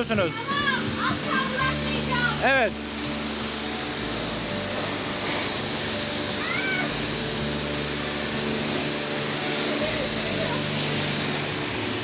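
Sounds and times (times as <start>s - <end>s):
water jet spraying hiss: 0.0s - 12.0s
high-pitched squeal: 1.4s - 12.0s.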